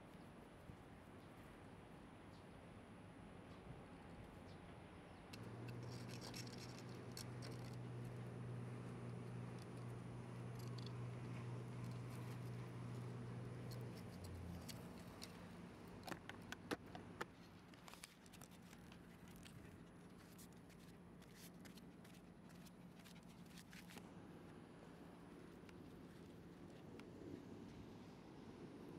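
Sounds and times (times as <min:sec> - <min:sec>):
low steady hum: 0:05.0 - 0:28.9.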